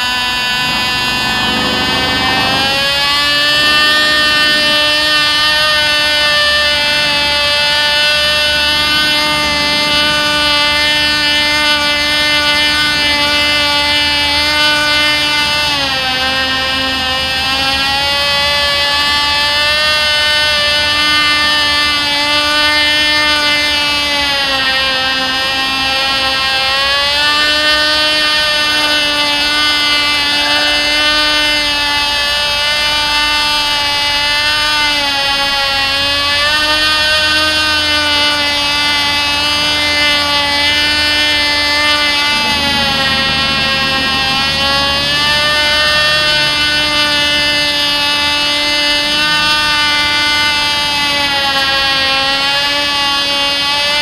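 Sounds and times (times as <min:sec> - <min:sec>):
model plane engine buzzing: 0:00.0 - 0:54.0.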